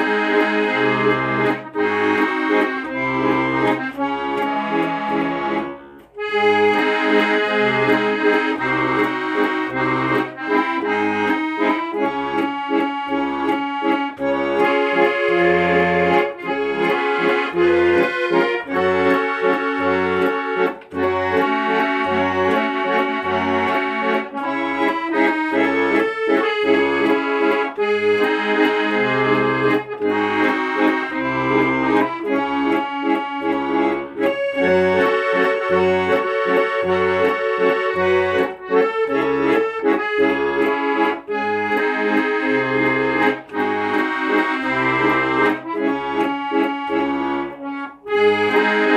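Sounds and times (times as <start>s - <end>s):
accordion music: 0.0s - 48.9s.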